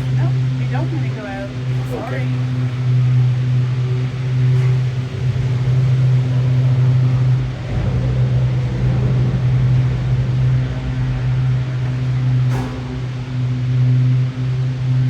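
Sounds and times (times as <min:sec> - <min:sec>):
cable car machine hum: 0:00.0 - 0:15.0.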